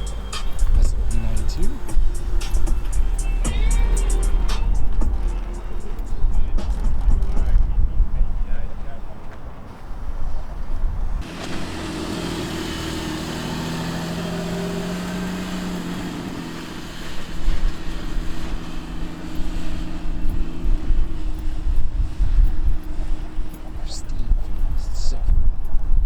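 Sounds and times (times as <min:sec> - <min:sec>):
low gusty rumbling: 0:00.0 - 0:26.0
vehicle engine droning hum: 0:00.0 - 0:26.0.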